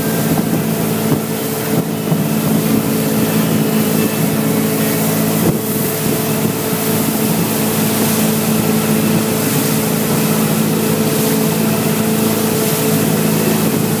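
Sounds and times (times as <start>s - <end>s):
churning wake rushing: 0.0s - 14.0s
motorboat engine drone: 0.0s - 14.0s
wind over microphone: 0.0s - 14.0s.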